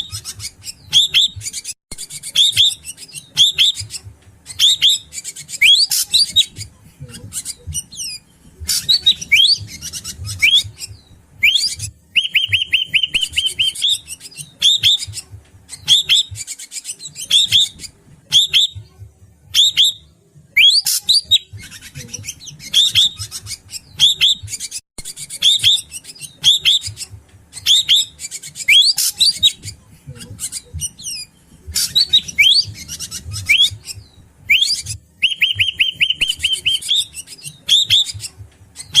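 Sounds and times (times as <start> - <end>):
bird whistling and rasping: 0.0 - 18.8, 19.5 - 39.0.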